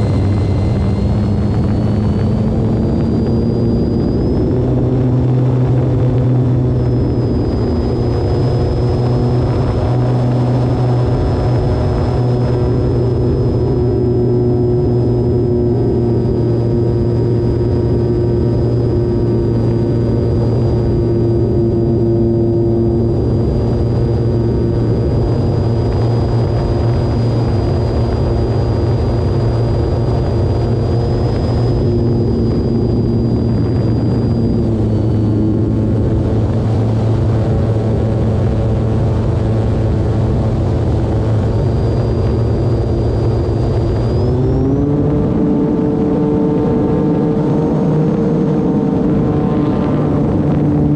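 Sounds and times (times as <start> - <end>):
electric motor high whine: 0.0 - 50.9
propeller rushing noise: 0.0 - 50.9.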